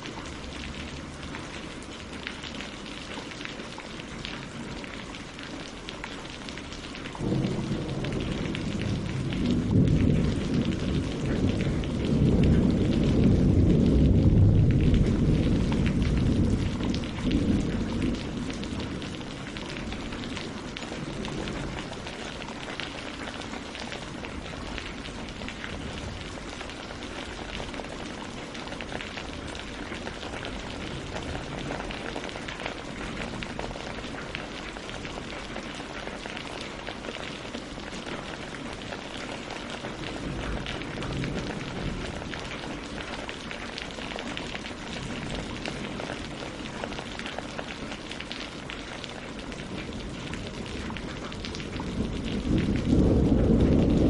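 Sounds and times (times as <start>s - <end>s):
rain on leaves and water: 0.0s - 54.0s
thunder rumbling: 6.6s - 36.0s, 37.7s - 48.0s, 49.4s - 54.0s.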